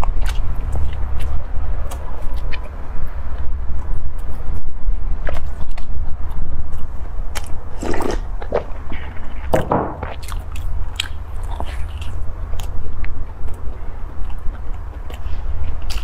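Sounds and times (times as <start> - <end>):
chewing soft bread: 0.0 - 16.0
low hum: 0.0 - 16.0
wet mouth sounds: 0.0 - 16.0.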